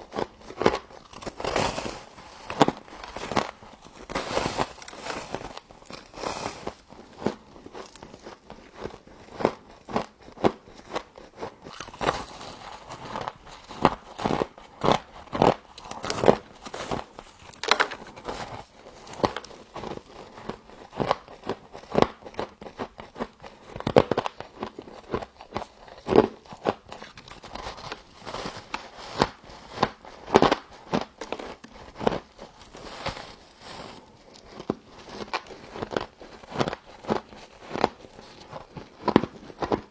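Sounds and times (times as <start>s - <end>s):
crisp crunches of chewing frost: 0.0s - 39.9s.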